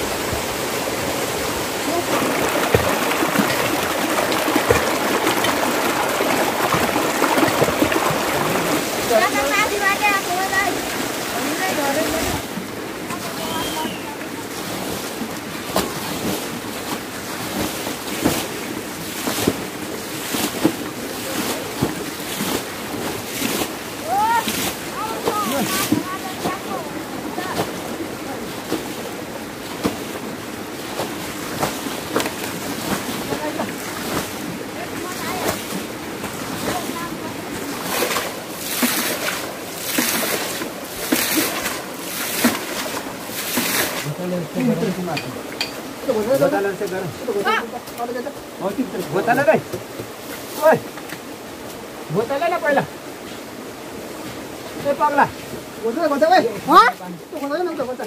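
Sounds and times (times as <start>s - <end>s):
stream water rushing: 0.0s - 58.0s
water flung splashing onto rocks: 1.5s - 51.2s.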